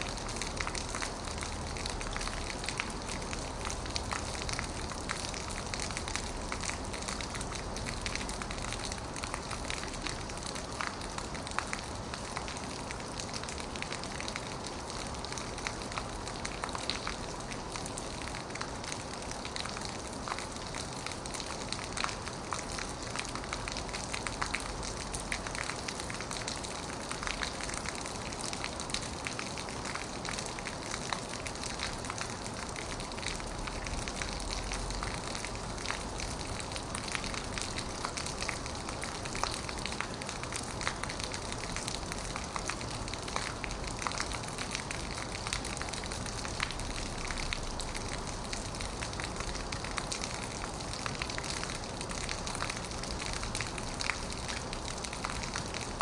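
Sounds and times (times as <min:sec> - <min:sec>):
heavy rain on a metal roof: 0:00.0 - 0:56.0.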